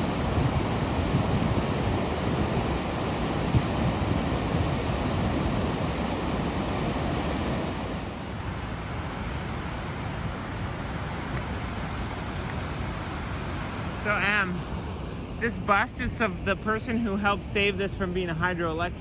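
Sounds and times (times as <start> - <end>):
wind on microphone: 0.0 - 18.1
waterfall roaring: 0.0 - 19.0.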